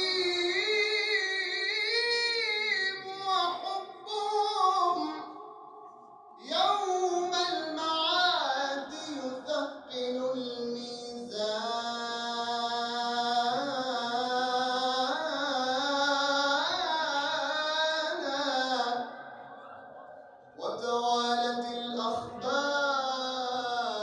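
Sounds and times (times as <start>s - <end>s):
man chanting a hymn: 0.0s - 5.4s, 6.4s - 19.3s, 20.6s - 24.0s.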